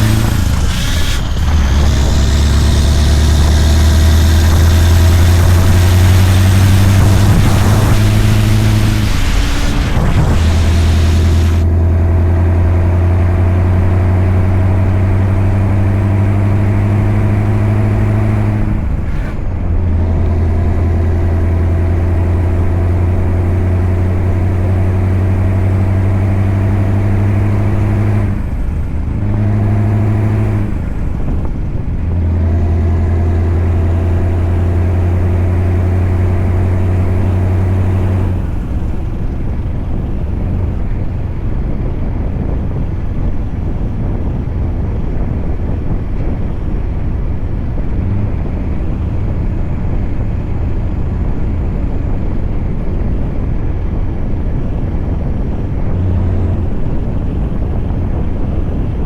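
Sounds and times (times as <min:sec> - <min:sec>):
road and wind noise: 0:00.0 - 0:59.0
truck engine running under load: 0:00.0 - 0:59.0.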